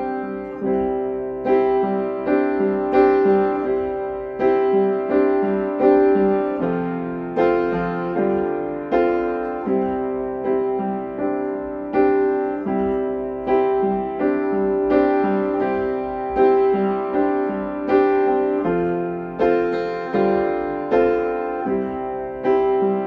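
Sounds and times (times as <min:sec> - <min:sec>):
piano playing slow chords: 0:00.0 - 0:23.0.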